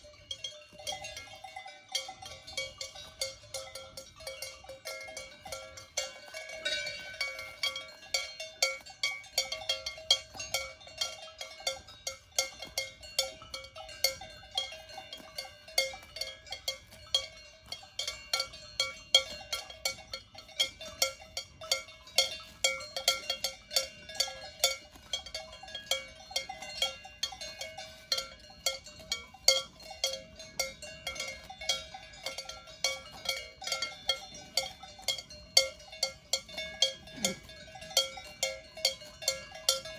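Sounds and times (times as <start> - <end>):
cowbells clanking: 0.0 - 39.9.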